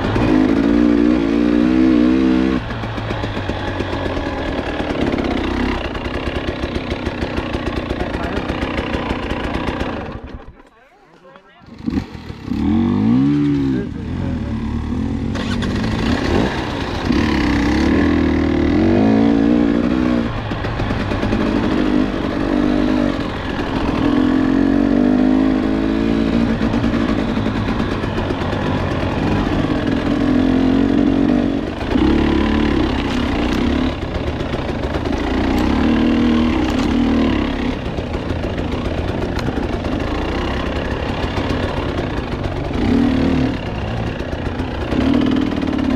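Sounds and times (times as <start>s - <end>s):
dirt bike engine revving: 0.0s - 10.5s, 11.1s - 45.9s.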